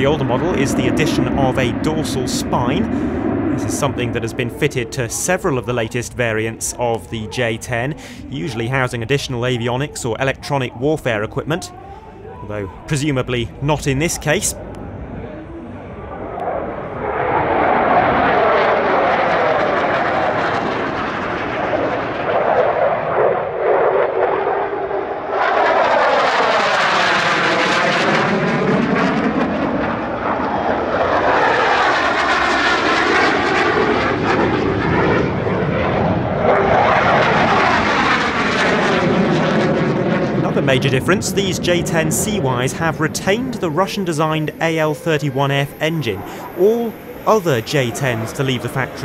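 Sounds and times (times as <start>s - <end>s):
fighter jets flying past: 0.0s - 49.0s.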